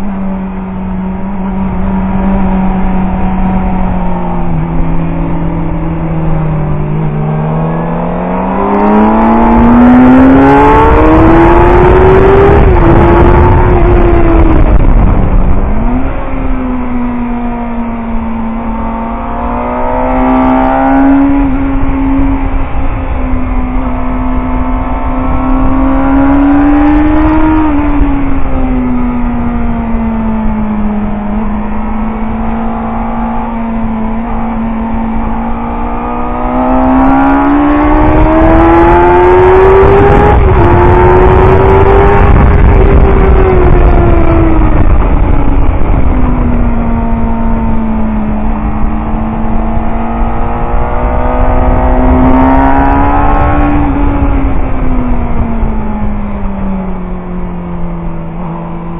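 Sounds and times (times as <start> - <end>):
wind rush on microphone: 0.0 - 58.9.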